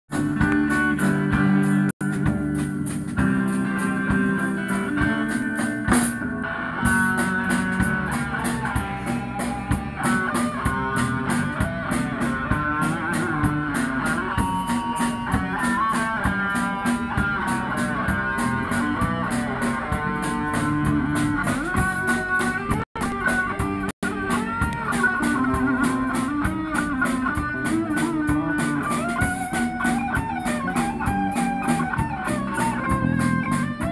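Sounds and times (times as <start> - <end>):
drum kit strokes: 0.1 - 33.9
electric guitars playing: 0.1 - 33.9.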